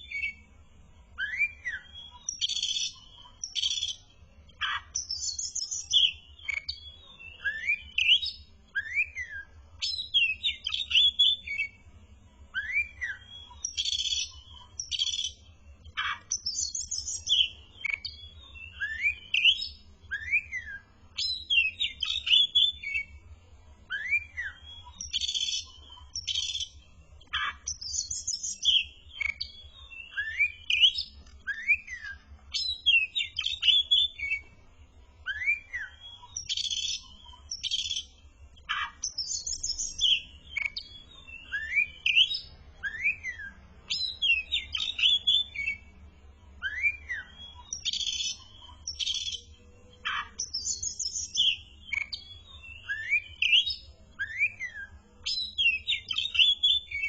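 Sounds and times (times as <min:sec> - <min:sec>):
bird singing: 0:00.0 - 0:57.0.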